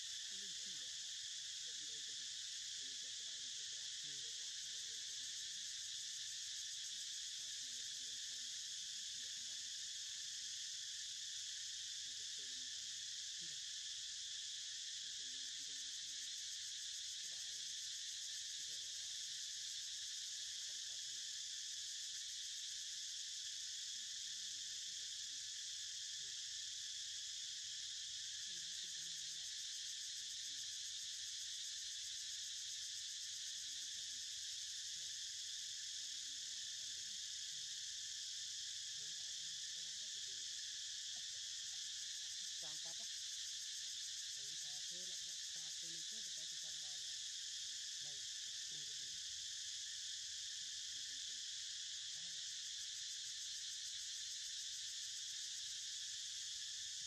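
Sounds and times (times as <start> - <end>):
insects humming: 0.0 - 57.0.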